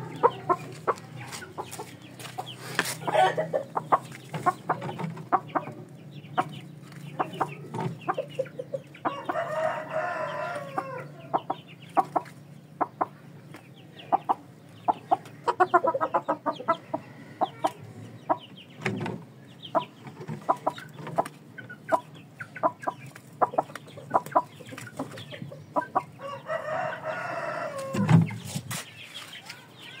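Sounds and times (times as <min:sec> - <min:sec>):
chickens clucking: 0:00.0 - 0:30.0
chickens pecking dirt floor: 0:00.0 - 0:30.0
drawn-out chicken calls: 0:00.0 - 0:30.0.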